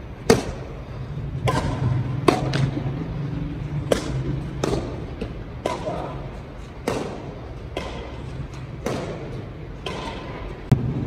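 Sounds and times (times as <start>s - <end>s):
rackets hitting shuttlecock: 0.2s - 11.0s.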